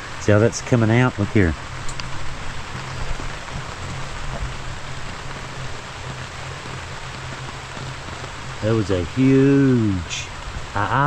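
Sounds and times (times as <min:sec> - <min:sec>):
light rain hiss: 0:00.0 - 0:11.0
steady low hum: 0:00.0 - 0:11.0.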